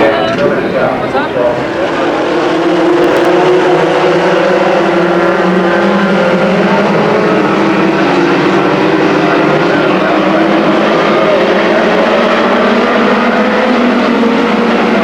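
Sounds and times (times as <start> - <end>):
racing engines droning: 0.0 - 15.0.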